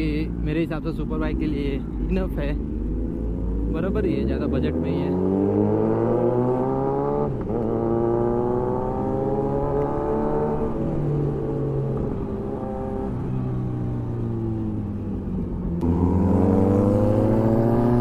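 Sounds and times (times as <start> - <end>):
motorcycle engine accelerating: 1.5 - 18.0.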